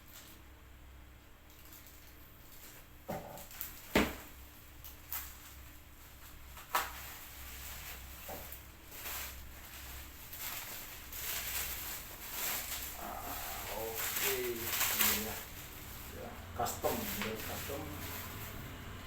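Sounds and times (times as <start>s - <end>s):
packaging rustling: 1.5s - 19.0s.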